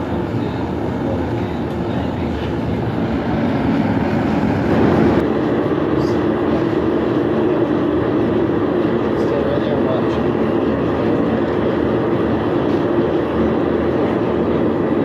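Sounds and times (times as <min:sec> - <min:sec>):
forge equipment running: 0:00.0 - 0:15.0.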